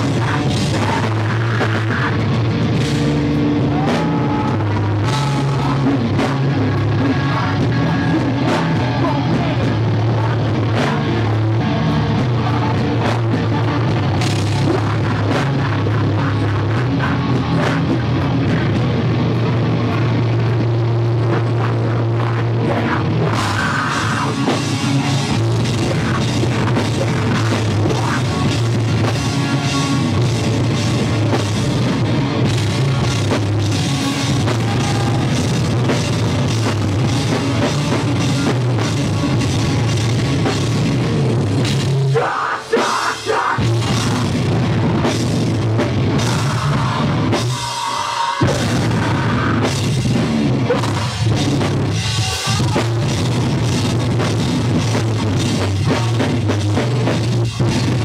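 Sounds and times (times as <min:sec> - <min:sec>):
bass guitar: 0:00.0 - 0:58.0
drum kit with cymbals: 0:00.0 - 0:58.0
electric guitars: 0:00.0 - 0:58.0.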